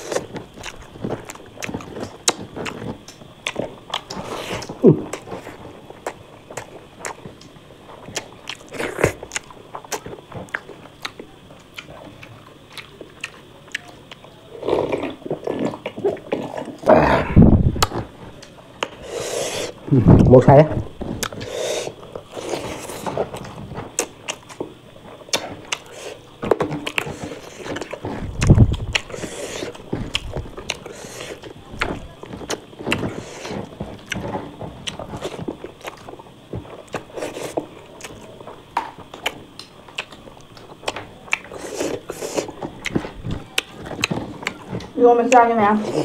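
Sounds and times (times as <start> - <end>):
person biting and chewing food: 0.0 - 20.3, 21.2 - 46.0.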